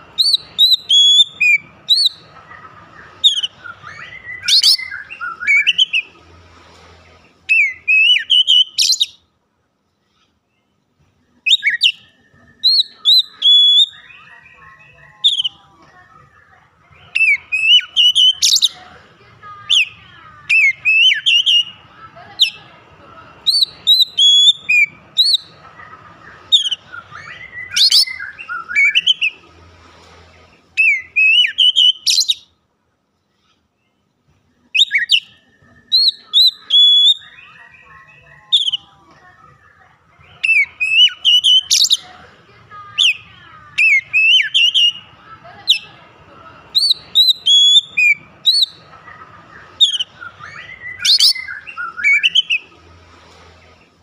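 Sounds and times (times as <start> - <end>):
bird singing whistles and chatter: 0.0 - 9.3, 11.4 - 15.6, 16.2 - 19.0, 19.6 - 22.8, 23.4 - 32.6, 34.6 - 54.0.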